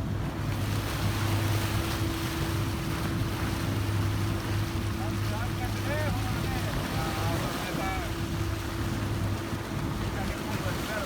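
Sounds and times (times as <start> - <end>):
outboard motor running: 0.0 - 11.0
wind and water rushing: 0.0 - 11.0.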